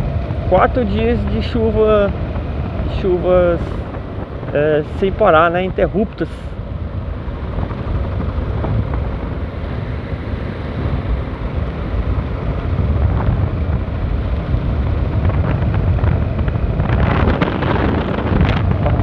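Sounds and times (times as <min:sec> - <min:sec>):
motorcycle engine and tyre noise: 0:00.0 - 0:19.0
wind rushing over microphone: 0:00.0 - 0:19.0.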